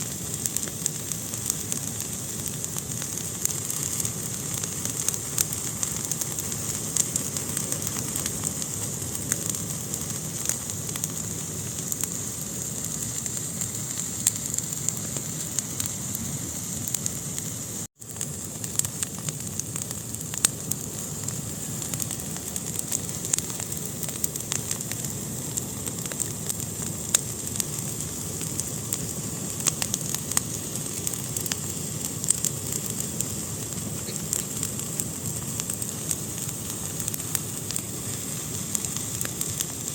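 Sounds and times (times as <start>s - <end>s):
fire crackling and hissing: 0.0s - 39.9s.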